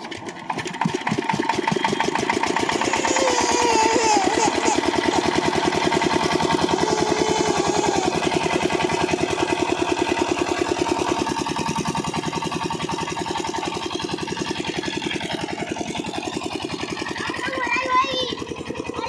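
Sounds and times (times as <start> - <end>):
diesel water pump engine running: 0.0 - 19.0.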